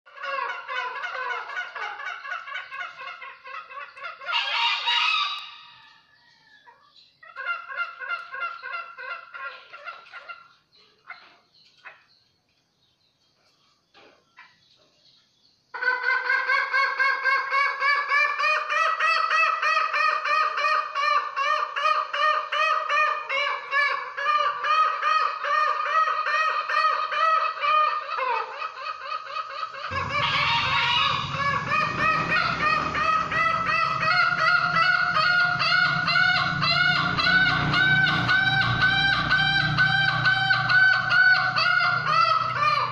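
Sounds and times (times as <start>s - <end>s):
fowl pulsing calls: 0.1s - 12.1s, 15.8s - 42.9s.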